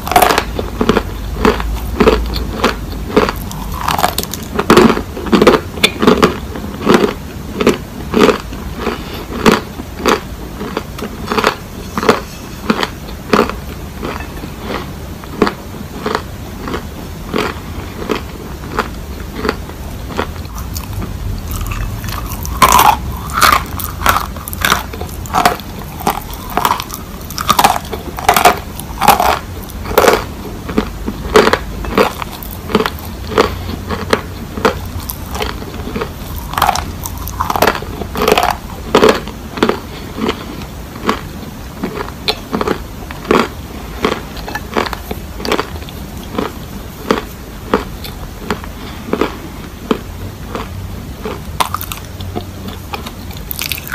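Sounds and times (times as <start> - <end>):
crunching and chewing clay: 0.0 - 53.9.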